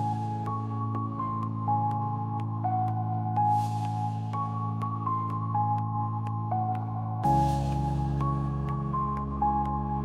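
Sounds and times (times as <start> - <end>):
deep house music: 0.0 - 10.0.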